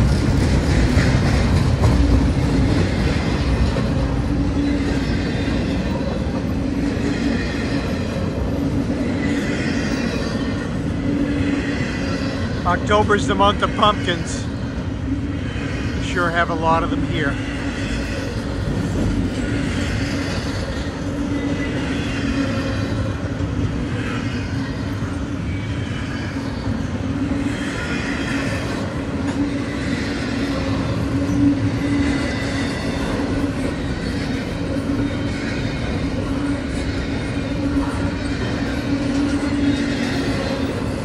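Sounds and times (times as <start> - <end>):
steel train wheels rumbling on rail: 0.0 - 41.0
faint high wheel squeal: 2.8 - 41.0.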